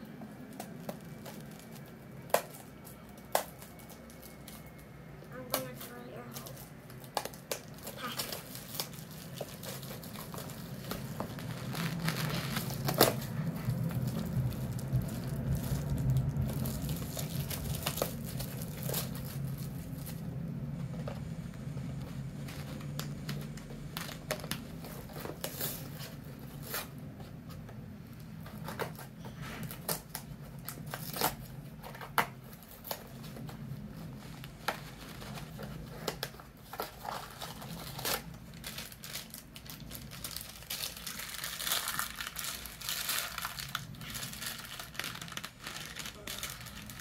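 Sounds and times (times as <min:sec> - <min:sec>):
packaging crinkling and tearing: 0:00.0 - 0:47.0.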